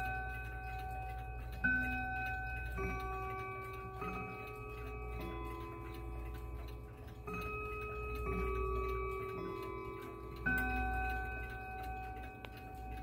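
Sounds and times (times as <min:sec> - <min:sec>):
clock chime melody: 0:00.0 - 0:13.0
clock ticking: 0:00.0 - 0:13.0.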